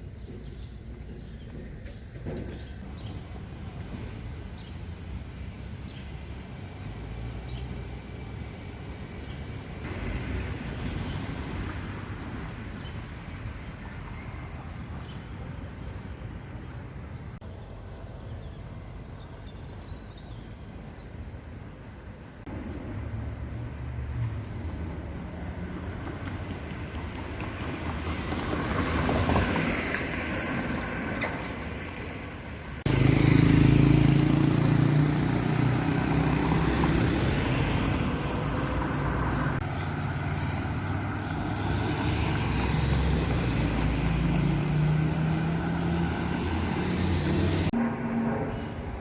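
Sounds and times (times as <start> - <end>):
city traffic passing: 0.0 - 49.0.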